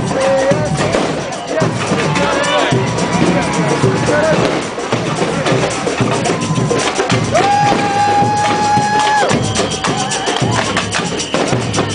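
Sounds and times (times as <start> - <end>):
crowd din: 0.0 - 11.9
drums beating: 0.0 - 11.9.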